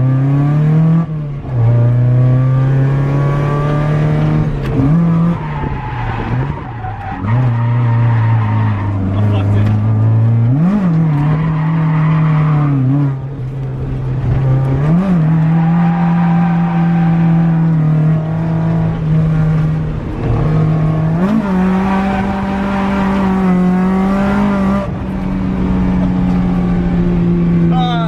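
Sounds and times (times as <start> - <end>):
car engine revving at high revs: 0.0 - 28.0.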